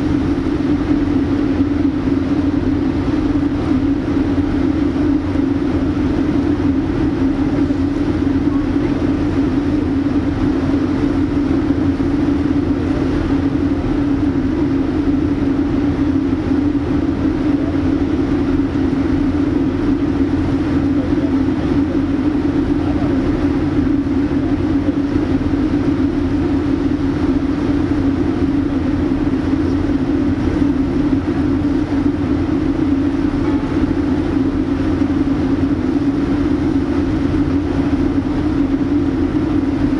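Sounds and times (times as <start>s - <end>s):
ship engine drone: 0.0s - 39.9s.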